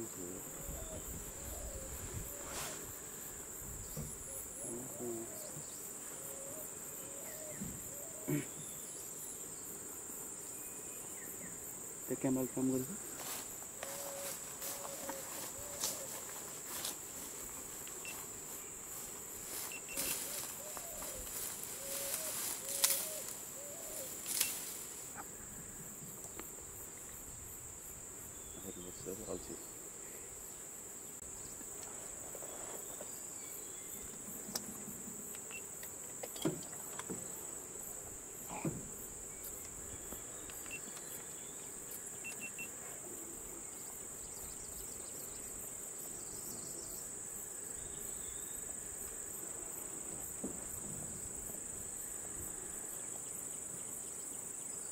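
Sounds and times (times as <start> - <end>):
insects high-pitched drone: 0.0 - 54.9.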